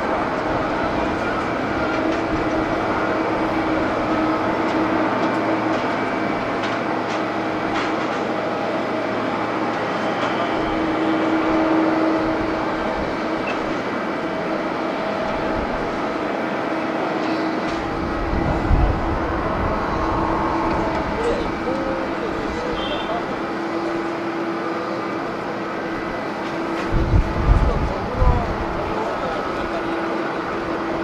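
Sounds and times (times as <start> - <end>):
jet engines rumbling and whining: 0.0 - 31.0.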